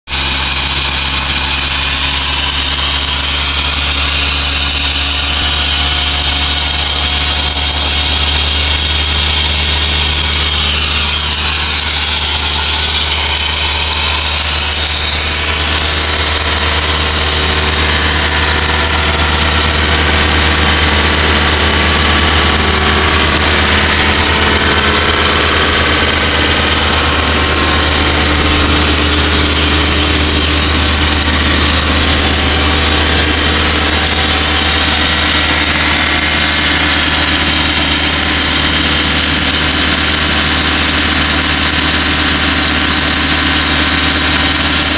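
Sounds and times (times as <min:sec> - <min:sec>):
air compressor engine droning: 0:00.1 - 0:44.9.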